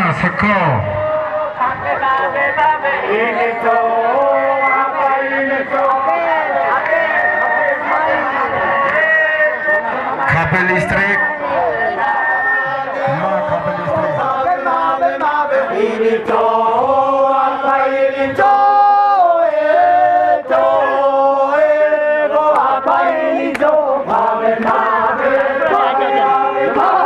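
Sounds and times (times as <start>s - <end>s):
men chanting together: 1.0s - 10.3s, 11.5s - 27.0s.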